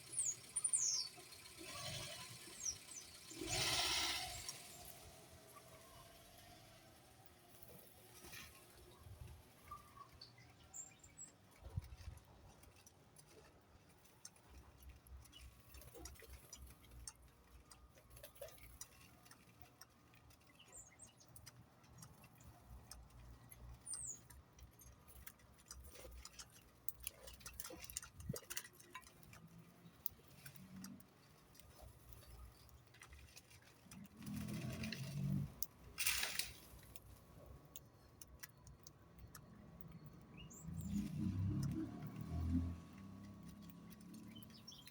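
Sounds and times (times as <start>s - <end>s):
faint ticking and tapping: 0.0s - 44.9s
small birds chirping: 0.0s - 44.9s.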